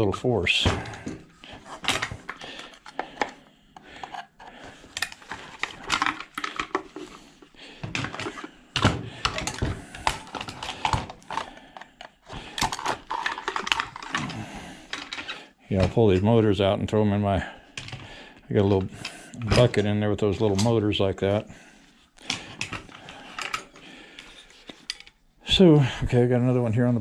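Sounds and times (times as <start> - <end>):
plastic and metal parts clattering: 0.5 - 16.2, 17.7 - 21.4, 22.1 - 25.3.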